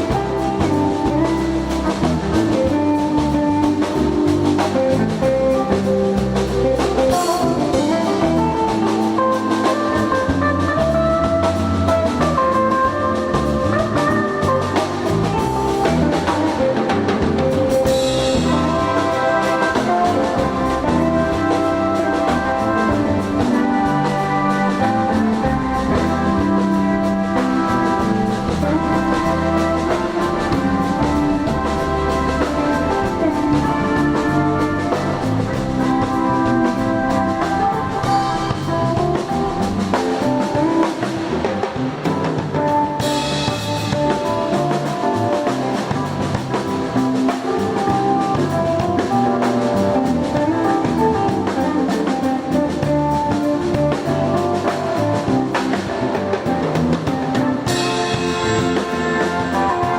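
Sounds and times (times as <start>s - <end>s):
instrumental band music: 0.0s - 59.9s.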